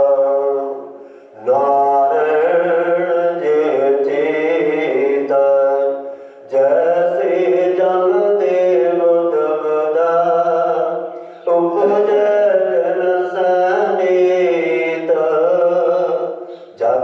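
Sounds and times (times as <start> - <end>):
man chanting scripture: 0.0 - 17.0.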